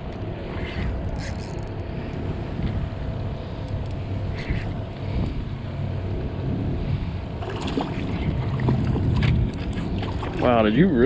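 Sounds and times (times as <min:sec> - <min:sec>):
water noise: 0:00.0 - 0:11.0
wind buffeting microphone: 0:00.0 - 0:11.0.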